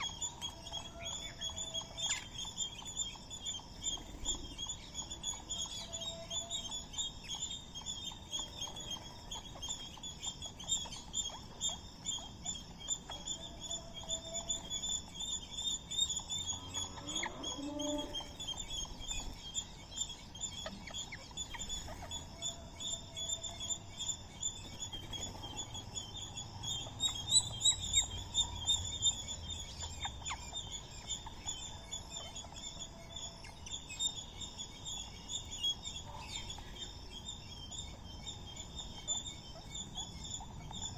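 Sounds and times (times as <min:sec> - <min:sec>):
birds chirping chorus: 0:00.0 - 0:40.9.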